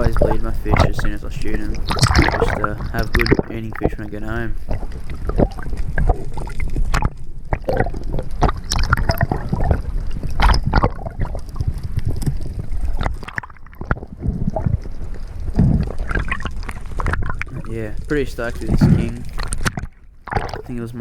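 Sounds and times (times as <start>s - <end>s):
water sloshing and gurgling: 0.0s - 21.0s
water splashes: 0.0s - 21.0s.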